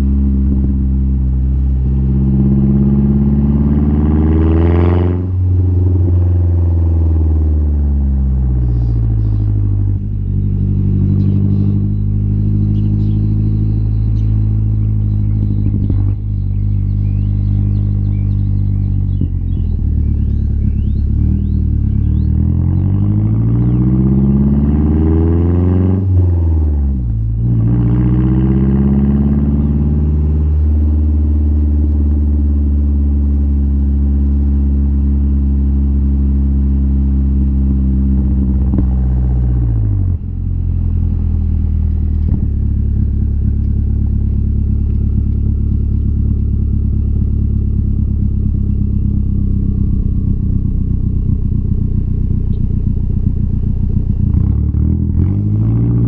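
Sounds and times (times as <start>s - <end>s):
car engine revving with exhaust drone: 0.0s - 56.0s.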